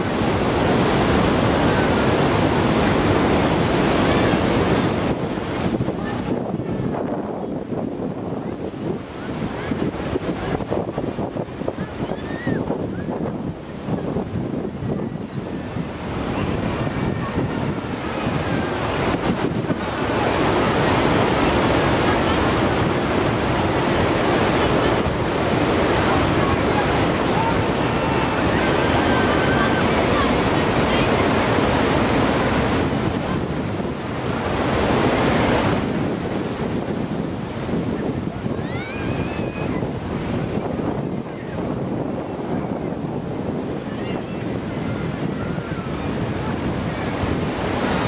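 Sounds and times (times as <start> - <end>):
river water rushing over dam: 0.0 - 48.0
wind buffeting microphone: 0.0 - 48.0.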